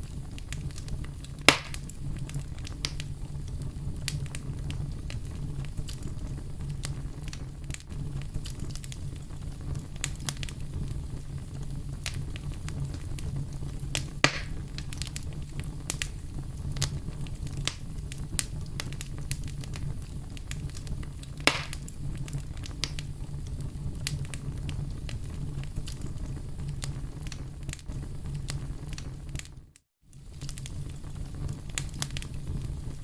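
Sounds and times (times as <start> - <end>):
campfire snaps and pops: 0.0 - 33.0
flames rumbling: 0.0 - 33.0.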